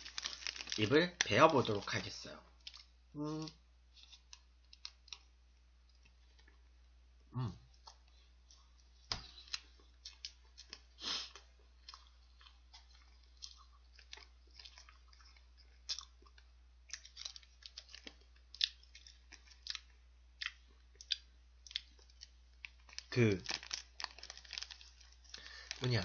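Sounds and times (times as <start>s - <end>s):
chewing soft cake: 2.5s - 26.0s.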